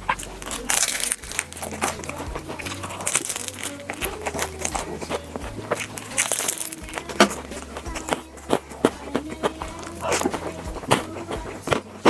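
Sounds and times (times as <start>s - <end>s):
crisp eating clicks and bites: 0.0s - 12.0s.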